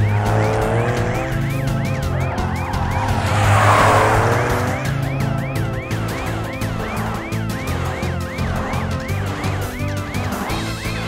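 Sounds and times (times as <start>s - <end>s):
cartoon police siren yelping: 0.0s - 9.8s
rushing whoosh: 0.0s - 10.7s.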